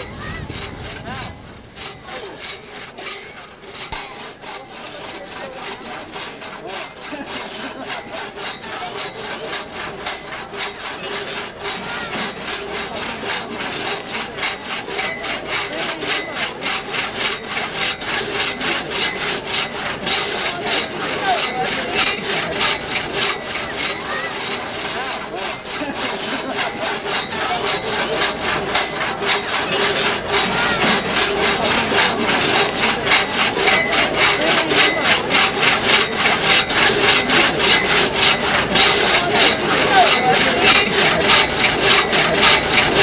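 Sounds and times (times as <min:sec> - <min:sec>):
hand saw cutting through log: 0:00.0 - 0:43.0.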